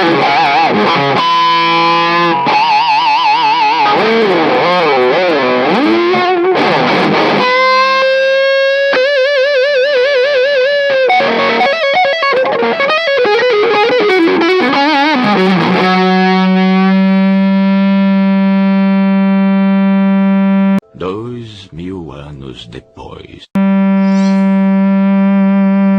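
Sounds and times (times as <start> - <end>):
distorted electric guitar lead: 0.0 - 20.8, 23.6 - 25.9.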